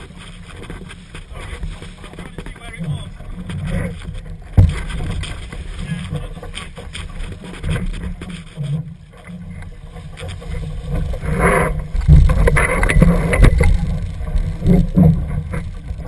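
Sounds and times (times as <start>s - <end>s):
water splashing against hull: 0.0s - 16.0s
wind on microphone: 0.0s - 16.0s.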